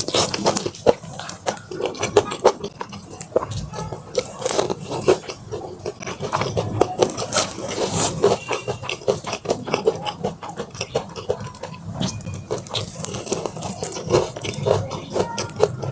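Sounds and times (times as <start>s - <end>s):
crunchy chewing: 0.0s - 15.9s.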